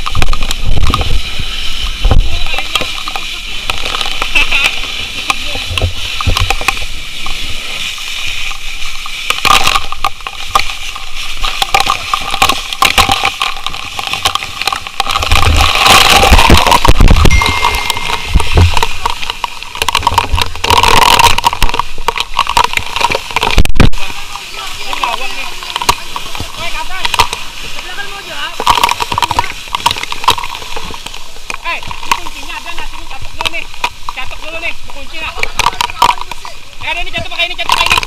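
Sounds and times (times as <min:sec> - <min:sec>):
spray spattering on metal: 0:00.0 - 0:36.6
fire hose water rushing: 0:00.0 - 0:38.0.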